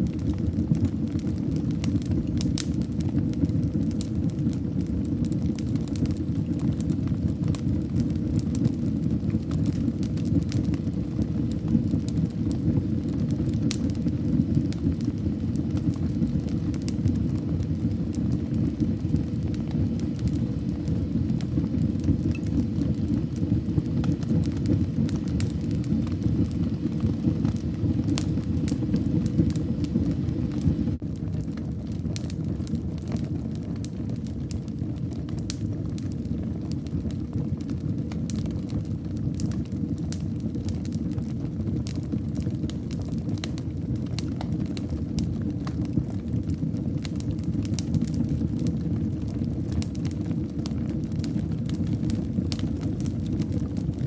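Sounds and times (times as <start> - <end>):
fire crackling and popping: 0.0 - 54.0
rush of flames: 0.0 - 54.0.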